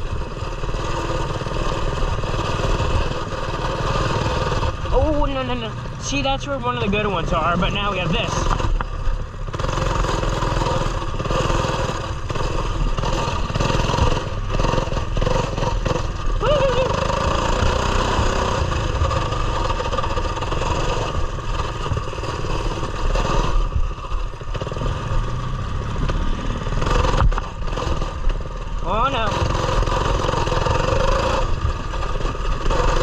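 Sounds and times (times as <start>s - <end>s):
small motorbike engine running: 0.0s - 33.0s.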